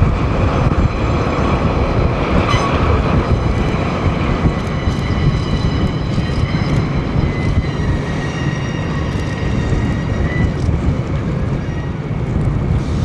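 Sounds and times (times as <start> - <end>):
train engine and rail rumble: 0.0 - 13.0
high-pitched squeal: 1.0 - 13.0.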